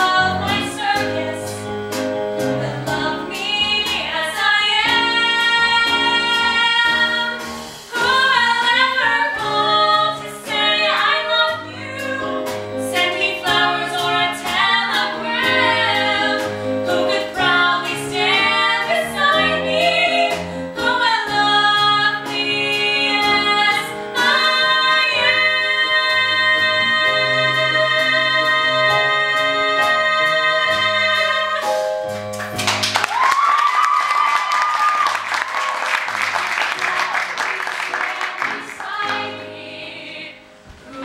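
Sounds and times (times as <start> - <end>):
two women singing a duet: 0.0 - 1.8, 2.4 - 31.8, 36.9 - 41.0
instrumental accompaniment: 0.0 - 41.0.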